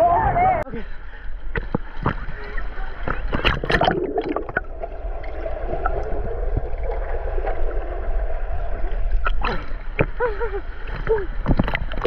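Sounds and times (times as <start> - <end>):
water sloshing and lapping: 1.4 - 12.0.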